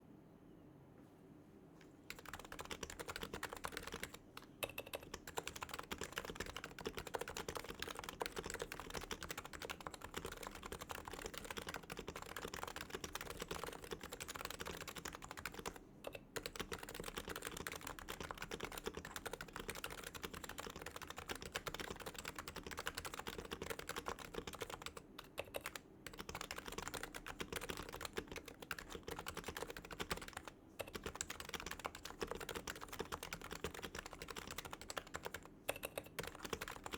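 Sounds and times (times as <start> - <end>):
fast typing on keyboard: 2.1 - 36.9.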